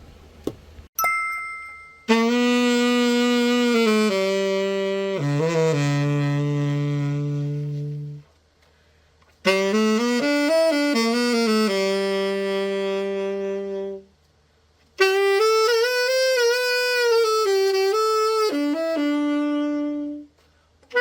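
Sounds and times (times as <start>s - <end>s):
tenor saxophone solo: 2.1s - 8.3s, 9.4s - 14.1s, 15.0s - 21.0s.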